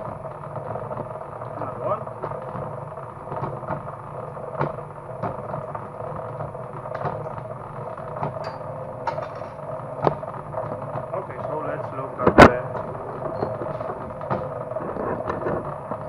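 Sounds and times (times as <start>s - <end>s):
cable stripping machine humming: 0.0s - 16.0s.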